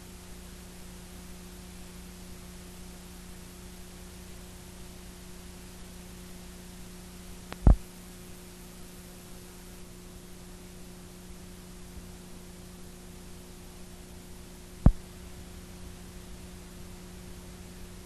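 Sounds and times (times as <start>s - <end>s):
background hiss: 0.0s - 18.0s
electrical hum: 0.0s - 18.0s.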